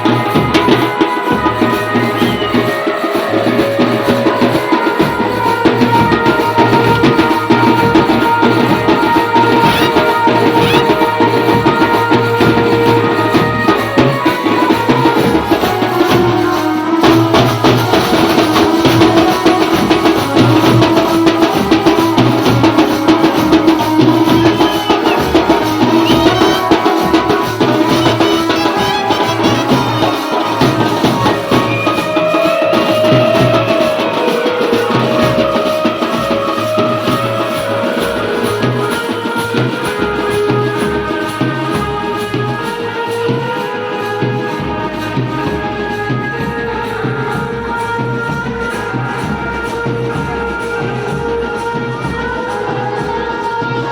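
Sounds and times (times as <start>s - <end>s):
fast drums and rattling percussion: 0.0s - 53.9s
sustained melody lines: 0.0s - 53.9s.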